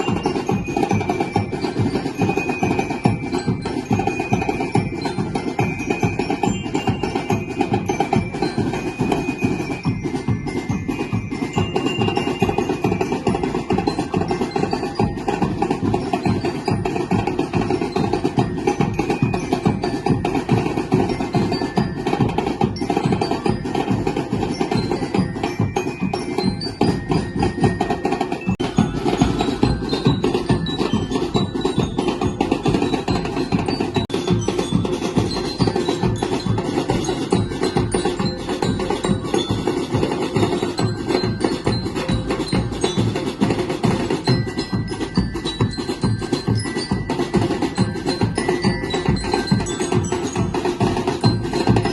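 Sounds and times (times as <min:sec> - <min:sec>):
music with fast dense percussion: 0:00.0 - 0:51.9.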